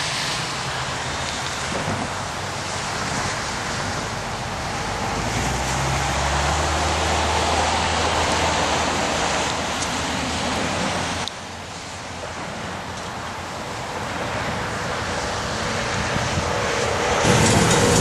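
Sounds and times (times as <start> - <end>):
low engine hum: 0.0 - 18.0
wheels rushing on rails: 0.0 - 18.0.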